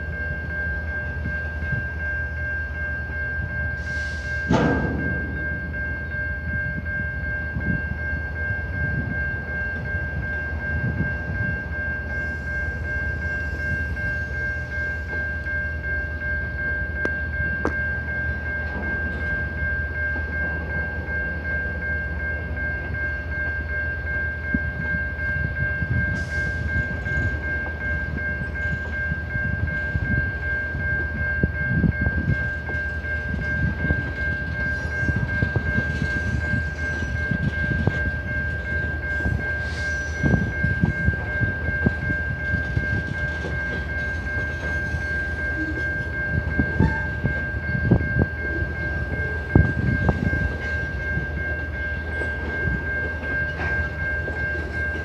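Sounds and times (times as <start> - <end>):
crossing warning bell ringing: 0.0 - 55.0.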